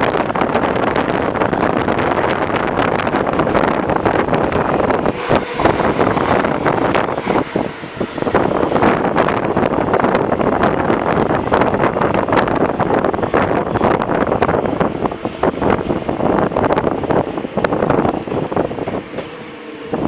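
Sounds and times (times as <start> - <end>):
train running noise: 0.0 - 20.0
wind buffeting microphone: 0.0 - 20.0.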